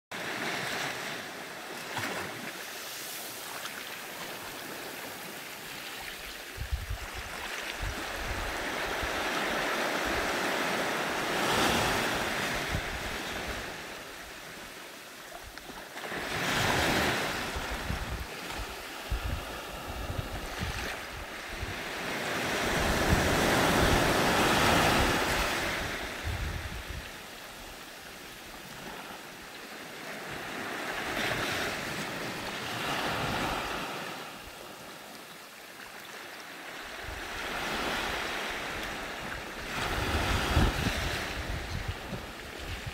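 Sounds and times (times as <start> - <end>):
small waves breaking on sand: 0.2 - 42.9.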